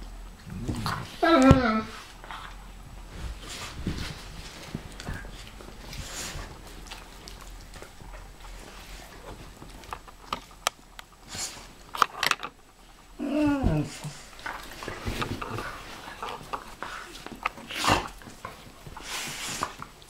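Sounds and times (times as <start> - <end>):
clicks and rustling on leather sofa: 0.5 - 12.6, 13.4 - 20.0.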